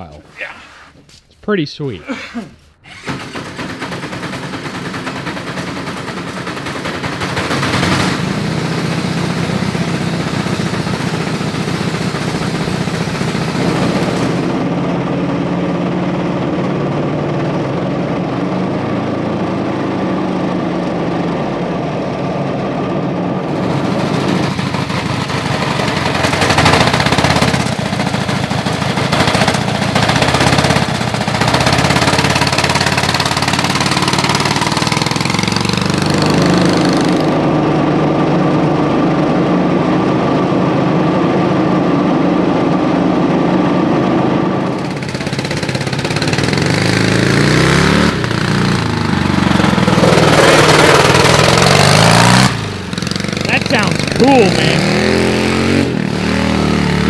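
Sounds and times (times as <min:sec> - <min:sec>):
go-kart engines running: 0:02.8 - 0:57.0.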